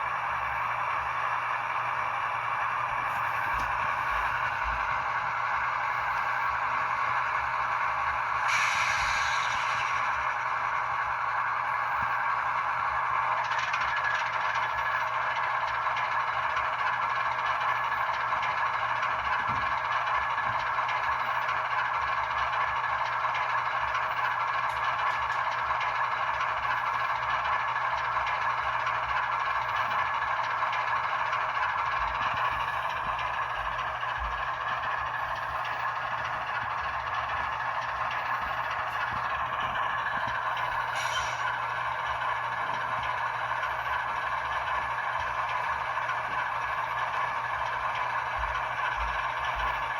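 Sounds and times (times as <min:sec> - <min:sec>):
model locomotive diesel engine sound: 0:00.0 - 0:49.9.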